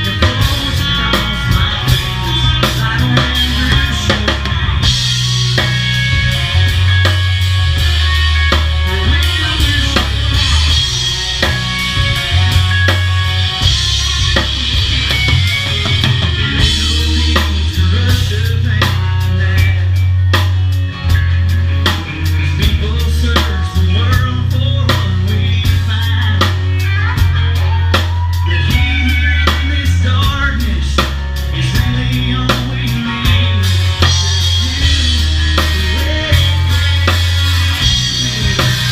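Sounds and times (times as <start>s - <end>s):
bass line: 0.0s - 38.9s
live band playing loudly: 0.0s - 38.9s.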